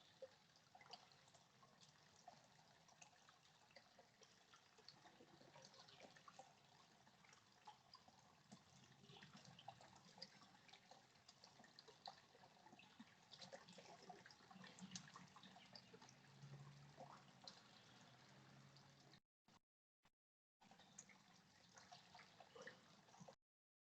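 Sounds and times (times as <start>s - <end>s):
water trickling and dripping: 0.0s - 19.2s, 20.6s - 23.4s.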